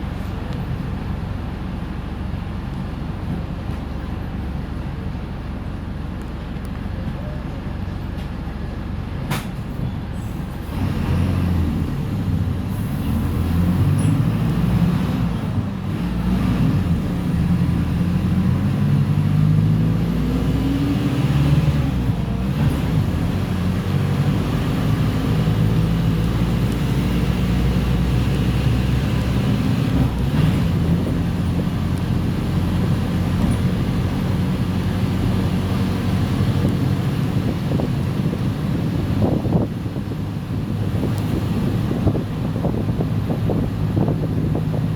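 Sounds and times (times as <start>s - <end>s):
bus diesel engine under load: 0.0s - 44.9s.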